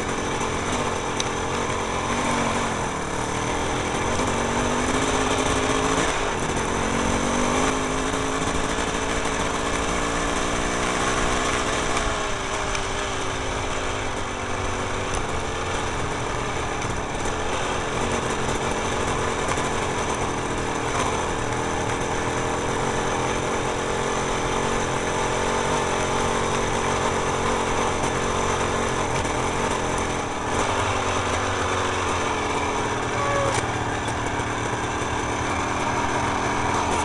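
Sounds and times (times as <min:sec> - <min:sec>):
small motorcycle engine running: 0:00.0 - 0:37.0.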